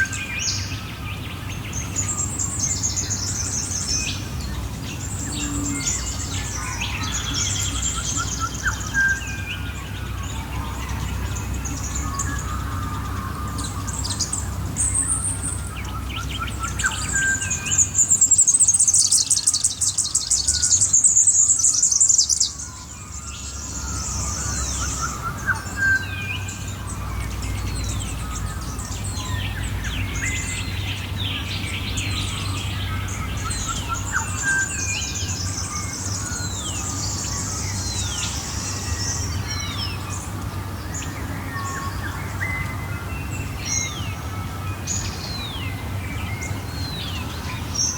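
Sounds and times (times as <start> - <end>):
birds singing: 0.0 - 47.9.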